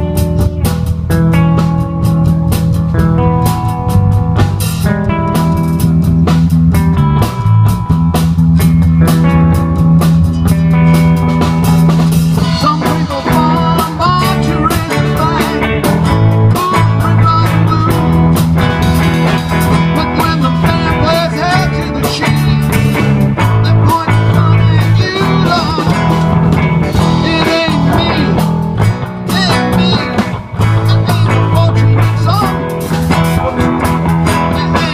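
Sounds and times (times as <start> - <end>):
blues-rock band playing: 0.0 - 34.9
lead guitar bending notes: 0.0 - 34.9.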